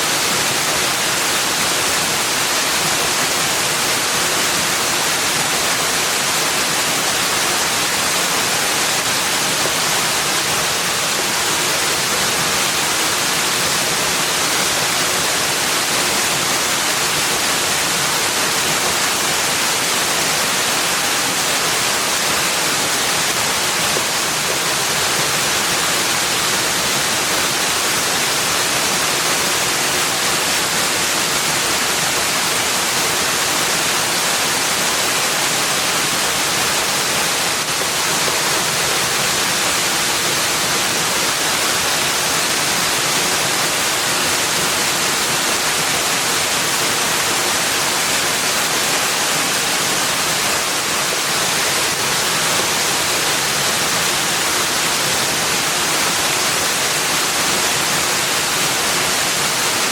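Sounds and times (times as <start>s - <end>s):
steady rushing nature ambience: 0.0s - 59.9s.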